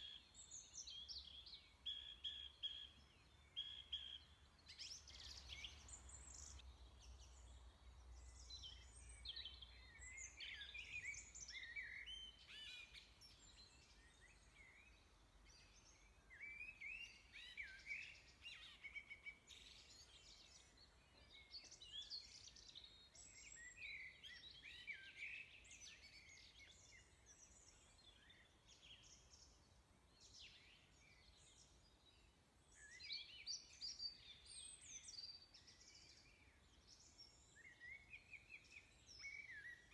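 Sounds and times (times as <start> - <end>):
faint bird chirps and calls: 0.0 - 39.9.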